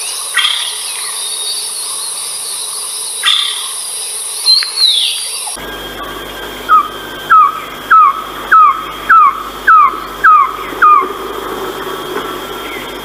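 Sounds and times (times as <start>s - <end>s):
bird calling falling notes: 0.0s - 13.0s
steady high tone: 1.3s - 13.0s.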